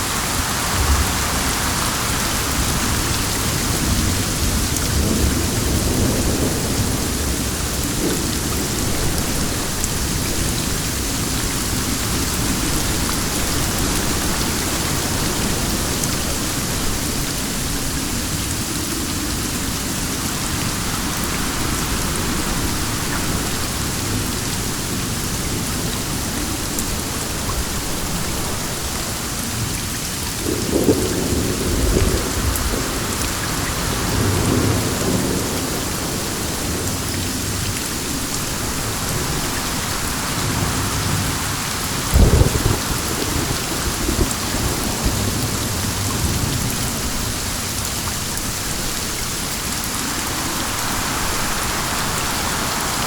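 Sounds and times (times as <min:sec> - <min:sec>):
heavy rain: 0:00.0 - 0:53.0
wind: 0:00.0 - 0:53.0.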